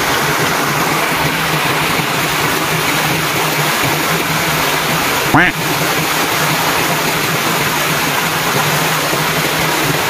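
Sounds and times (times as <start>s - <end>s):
stream running over stones: 0.0s - 10.0s.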